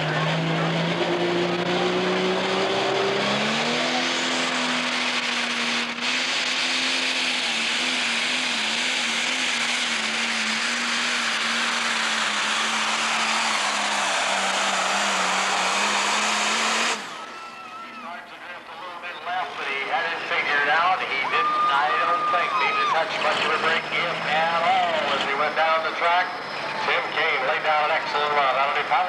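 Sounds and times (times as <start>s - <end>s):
diesel engine at full throttle: 0.0s - 29.0s.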